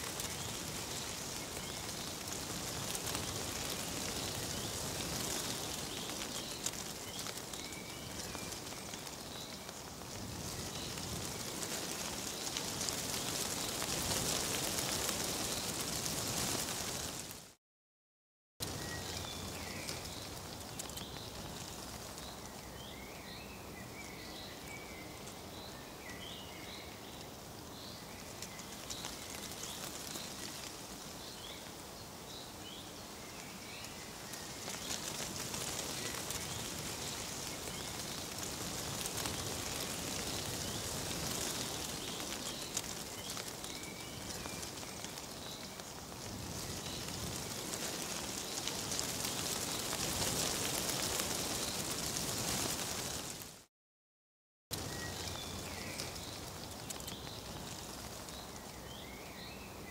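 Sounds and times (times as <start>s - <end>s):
small birds chirping: 0.0s - 16.9s, 18.6s - 53.1s, 54.7s - 59.9s
crackly rustling hiss: 0.0s - 17.6s, 18.6s - 53.7s, 54.7s - 59.9s.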